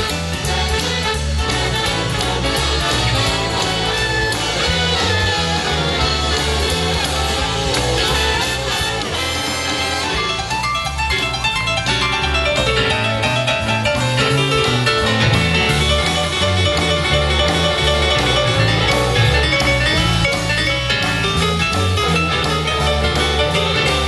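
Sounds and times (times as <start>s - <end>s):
live band instrumental: 0.0s - 24.0s.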